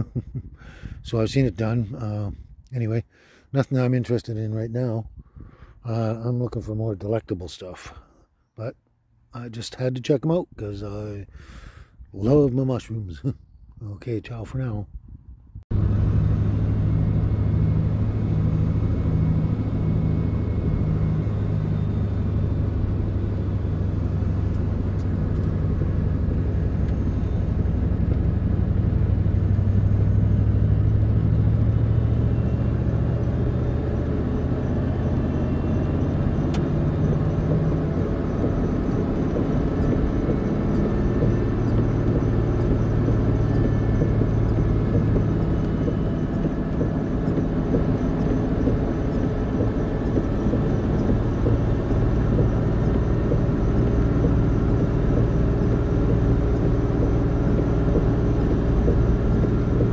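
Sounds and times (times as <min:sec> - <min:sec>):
engine and road noise drone: 0:00.0 - 0:59.9.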